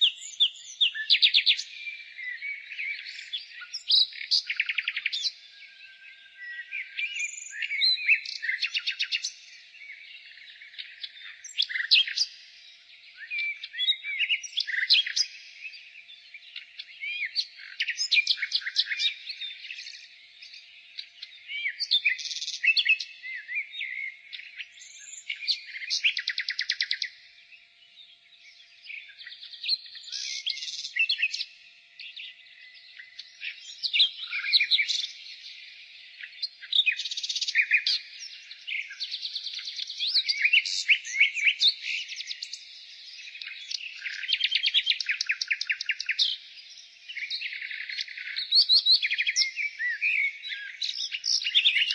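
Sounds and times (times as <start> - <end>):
nightingale singing: 0.0 - 51.9.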